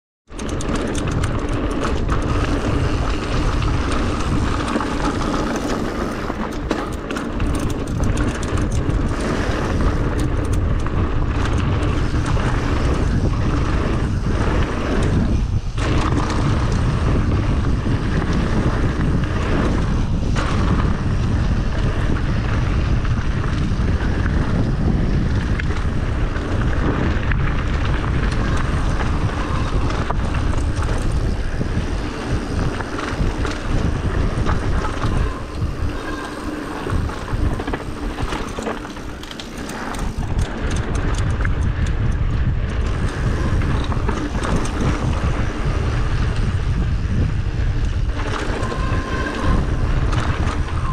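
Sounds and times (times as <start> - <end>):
bike rattling over ground: 0.3 - 50.9
wind buffeting microphone: 0.3 - 50.9
tyre noise: 0.5 - 50.9.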